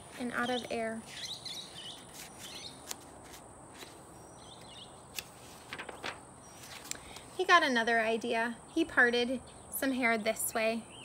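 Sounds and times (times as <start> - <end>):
birds chirping: 0.2 - 3.1, 3.8 - 11.0.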